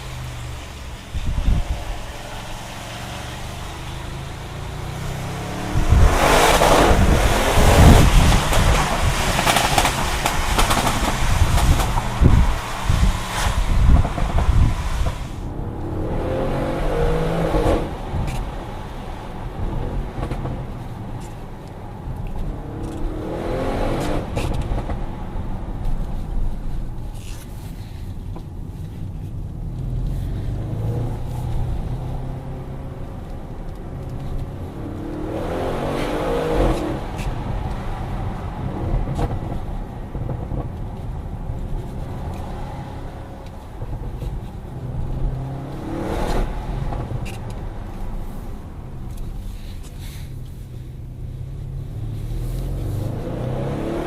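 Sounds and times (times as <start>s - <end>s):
car engine accelerating: 0.0s - 27.7s, 28.4s - 54.0s.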